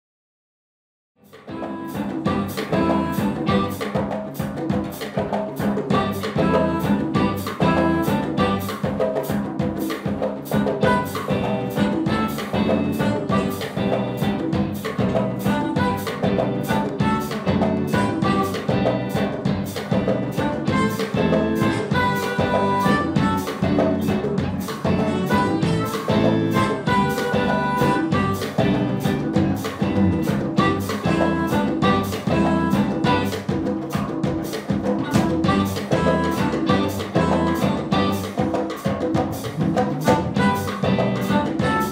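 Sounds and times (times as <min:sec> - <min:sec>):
harmonica lead: 0:01.2 - 0:04.4, 0:05.6 - 0:09.5, 0:10.4 - 0:41.9
saxophone: 0:01.2 - 0:09.5, 0:10.3 - 0:41.9
steady drum-kit beat: 0:01.2 - 0:41.9.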